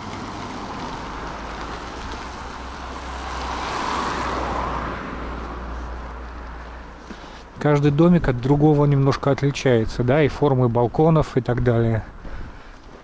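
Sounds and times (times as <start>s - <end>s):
vehicle passing: 0.0s - 10.8s.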